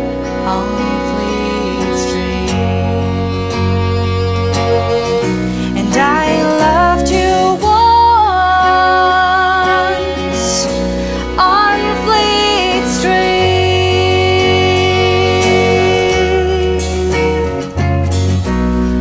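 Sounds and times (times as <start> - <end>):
sliding melody notes: 0.0 - 19.0
small band playing slow song: 0.0 - 19.0.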